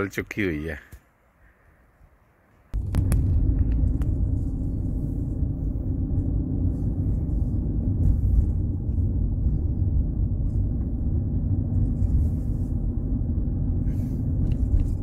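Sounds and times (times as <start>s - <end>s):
car engine and tyre rumble: 2.7s - 15.0s.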